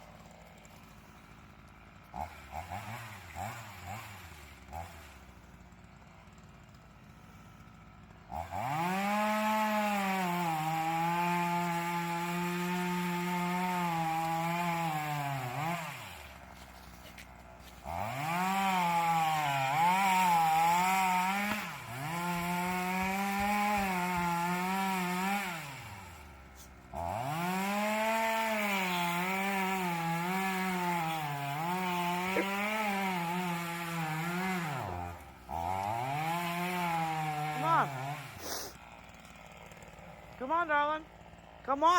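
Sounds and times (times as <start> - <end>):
chainsaw cutting tree trunk: 0.0 - 41.9.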